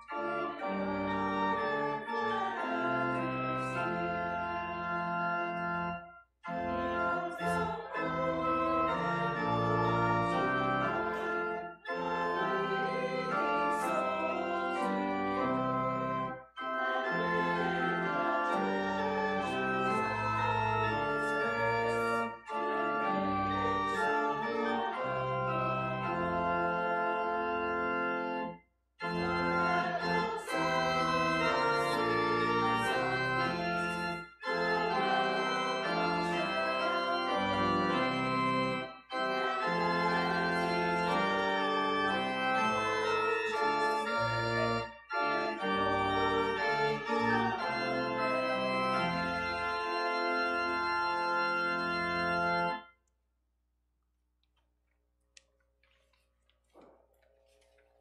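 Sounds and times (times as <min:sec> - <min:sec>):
congregation singing: 0:00.0 - 0:05.9, 0:06.5 - 0:27.2, 0:29.0 - 0:52.7
church organ chords: 0:00.0 - 0:52.9.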